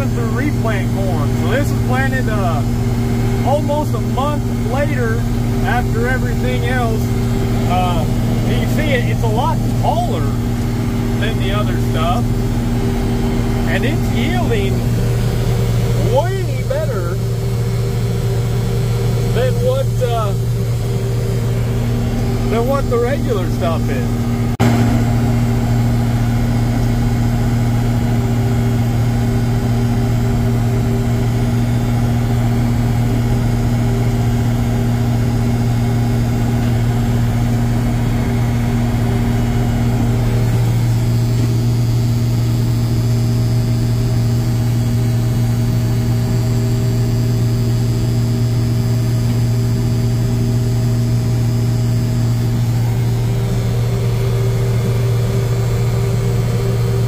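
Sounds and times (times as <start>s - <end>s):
combine engine drone: 0.0s - 57.0s
high machinery whine: 0.0s - 57.0s.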